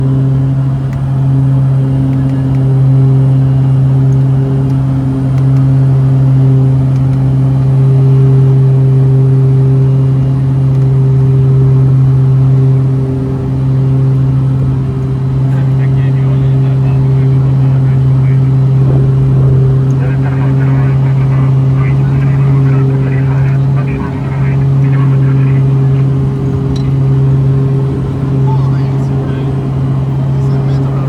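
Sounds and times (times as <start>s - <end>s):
turboprop propeller drone: 0.0s - 31.0s.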